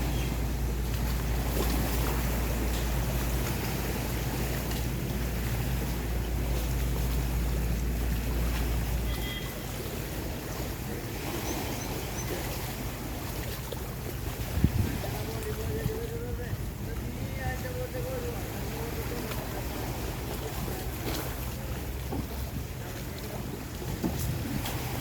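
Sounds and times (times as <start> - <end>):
boat engine humming: 0.0 - 25.0
wind and water rushing: 0.0 - 25.0.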